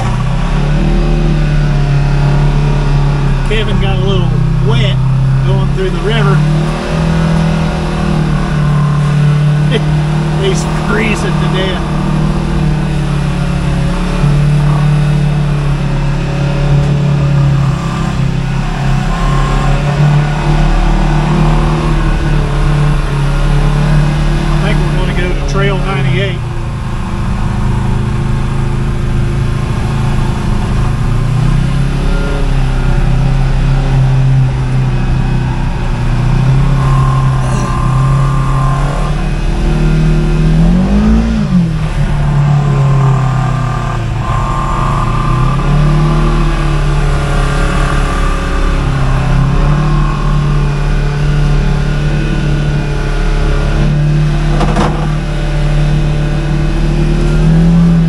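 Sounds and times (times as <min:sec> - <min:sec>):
low rumble: 0:00.0 - 0:58.0
vehicle engine revving: 0:00.0 - 0:58.0.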